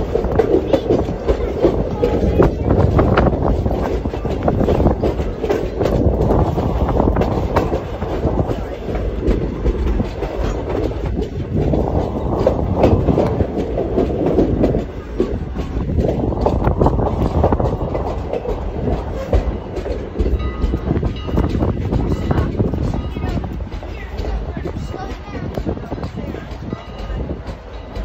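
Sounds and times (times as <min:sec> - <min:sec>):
train coach rumble and rattle: 0:00.0 - 0:28.0
wheels clicking over rails: 0:00.0 - 0:28.0.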